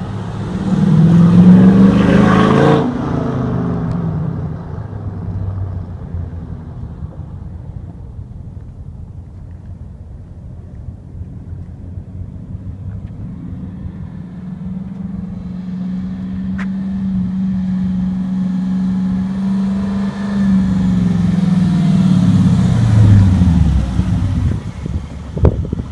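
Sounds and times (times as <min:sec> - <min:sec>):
car exhaust driving up: 0:00.0 - 0:25.9.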